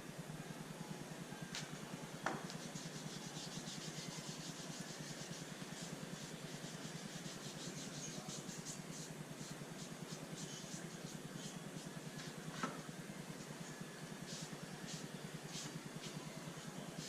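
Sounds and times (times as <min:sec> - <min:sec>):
steady low hum: 0:00.0 - 0:17.0
light rubbing strokes: 0:02.4 - 0:17.0.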